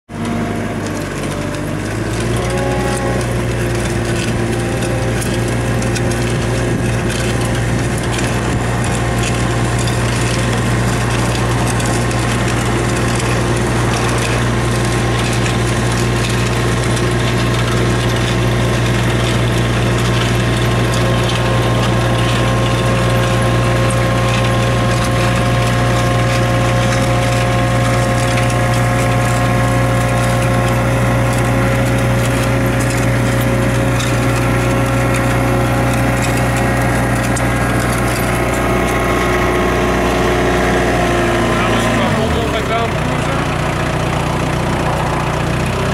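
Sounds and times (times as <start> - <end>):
loader engine hum: 0.1 - 45.9
mechanical clatter: 0.1 - 45.9.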